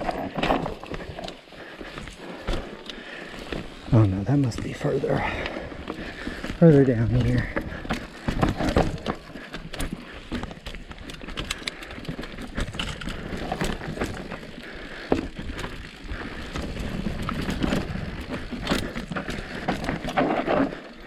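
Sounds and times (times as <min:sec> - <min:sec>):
bike clattering clicks and knocks: 0:00.0 - 0:21.0
bike tyres rolling over dirt: 0:00.0 - 0:21.0.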